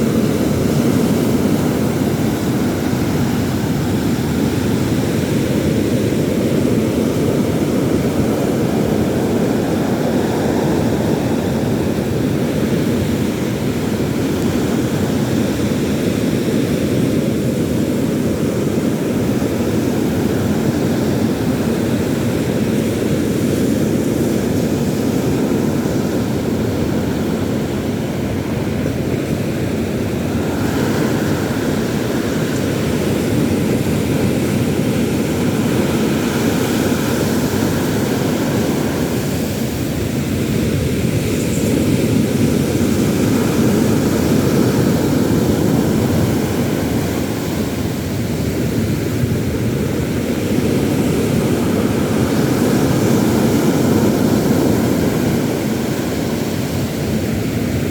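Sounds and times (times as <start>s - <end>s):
sea surf roaring: 0.0s - 57.9s
wind: 0.0s - 57.9s.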